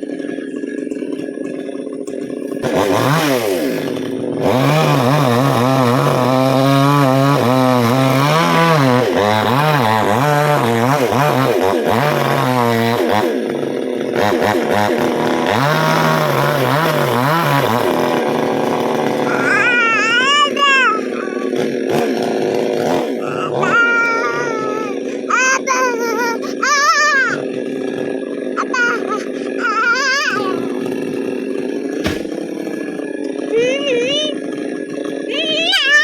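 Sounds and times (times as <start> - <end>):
chainsaw revving: 0.0 - 36.0.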